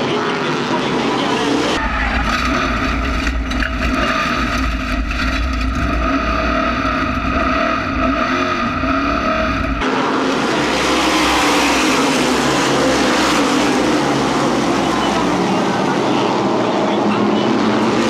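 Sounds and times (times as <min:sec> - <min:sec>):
race car engine in cockpit: 0:00.0 - 0:18.0.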